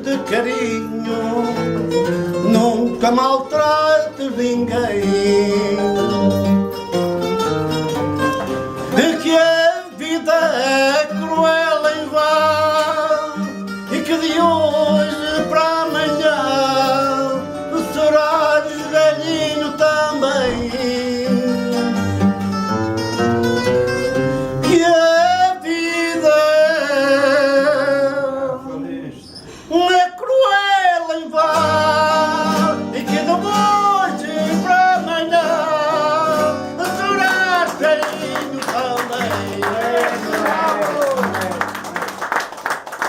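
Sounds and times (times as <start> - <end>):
man singing with vibrato: 0.0 - 6.8, 8.6 - 22.4, 24.3 - 41.5
plucked guitars: 0.0 - 28.7, 31.2 - 42.4.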